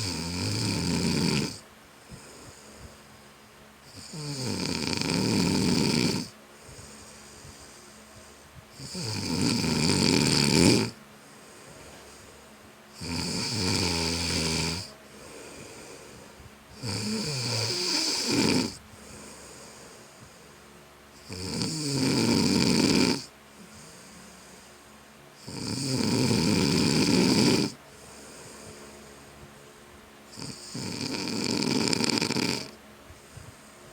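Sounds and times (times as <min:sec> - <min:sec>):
person snoring: 0:00.0 - 0:03.0, 0:03.8 - 0:07.8, 0:08.7 - 0:20.6, 0:21.2 - 0:24.7, 0:25.4 - 0:29.0, 0:30.3 - 0:32.8.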